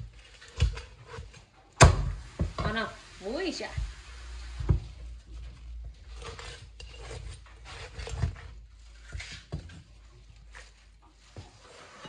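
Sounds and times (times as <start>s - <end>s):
scraping and rubbing: 0.0s - 12.0s.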